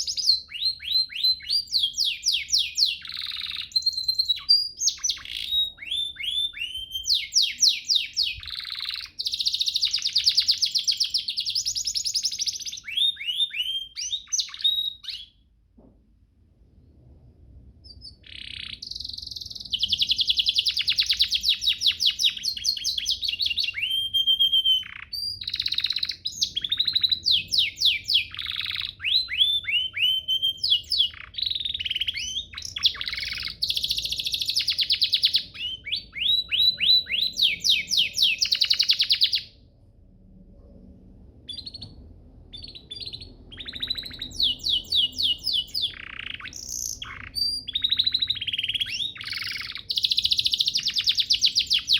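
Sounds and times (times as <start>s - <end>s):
canary singing trills: 0.0s - 15.4s, 17.8s - 39.6s, 41.4s - 51.9s.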